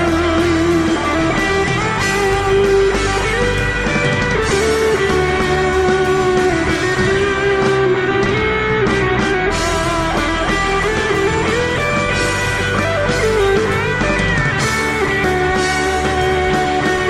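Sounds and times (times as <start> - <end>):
instrumental rock with electric guitar: 0.0 - 17.0.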